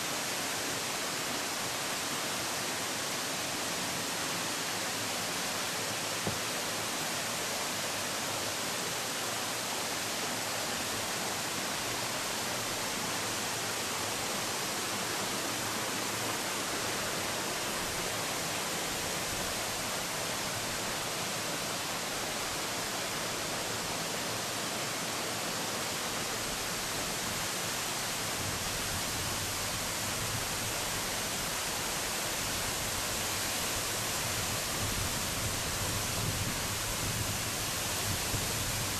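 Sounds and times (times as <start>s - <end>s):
waterfall rushing over rocks: 0.0s - 38.9s.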